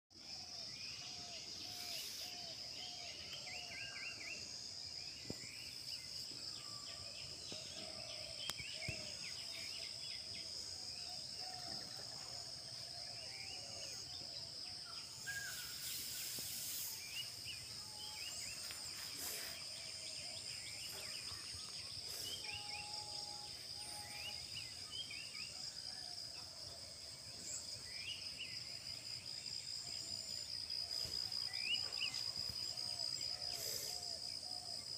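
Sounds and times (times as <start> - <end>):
insect drone: 0.2 - 34.9.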